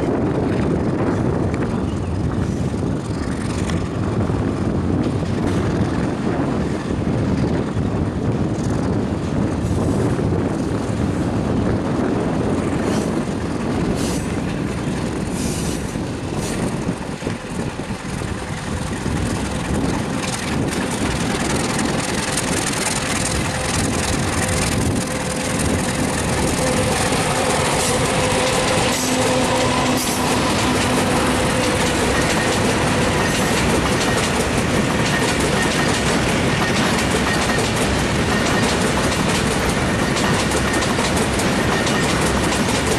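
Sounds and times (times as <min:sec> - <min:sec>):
diesel locomotive rumbling: 0:00.0 - 0:42.9
train wheels clattering on rail joints: 0:00.0 - 0:42.9.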